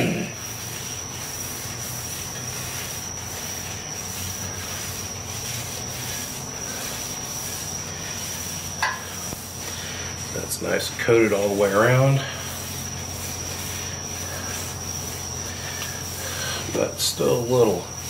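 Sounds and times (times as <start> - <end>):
paper towel rubbing griddle: 0.0 - 18.0
steady hiss: 0.0 - 18.0
thin high whine: 0.0 - 18.0.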